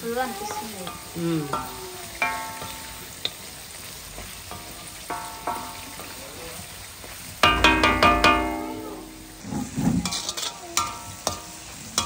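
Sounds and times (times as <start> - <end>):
food sizzling in hot oil: 0.0 - 12.0
spatula clanging on wok: 0.3 - 6.4, 7.0 - 12.0.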